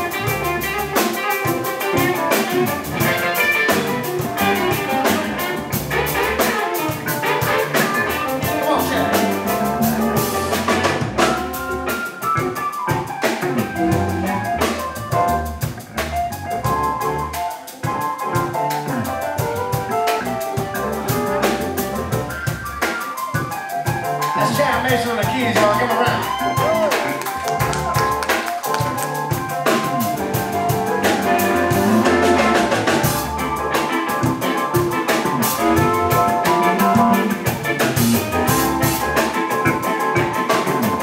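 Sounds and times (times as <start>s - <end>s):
electric bass: 0.0s - 22.9s, 24.0s - 41.0s
drum kit: 0.0s - 41.0s
electric guitar: 0.0s - 41.0s
keyboard: 0.0s - 41.0s.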